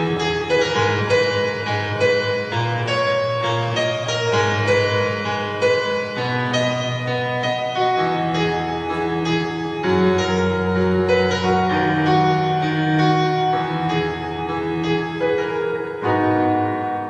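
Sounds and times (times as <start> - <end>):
keyboard chords: 0.0 - 17.0.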